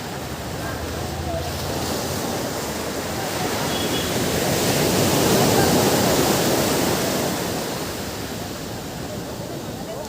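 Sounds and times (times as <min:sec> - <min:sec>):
ocean surf washing onto beach: 0:00.0 - 0:10.0.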